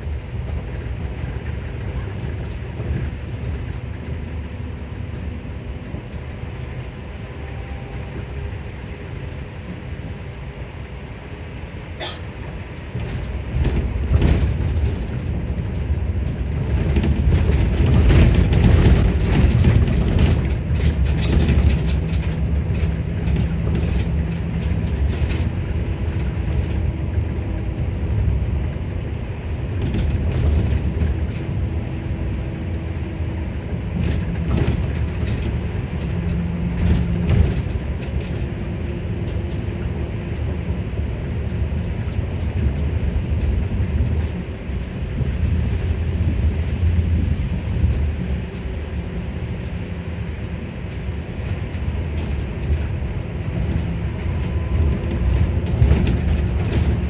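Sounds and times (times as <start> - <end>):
road and body rumble: 0.0 - 57.0
light rattles and clicks: 0.1 - 9.8, 12.0 - 57.0.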